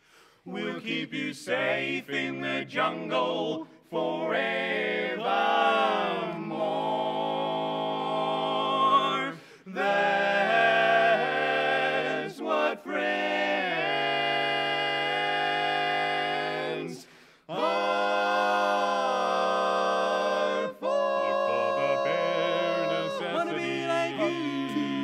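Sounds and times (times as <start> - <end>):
male quartet singing a cappella: 0.4 - 25.0.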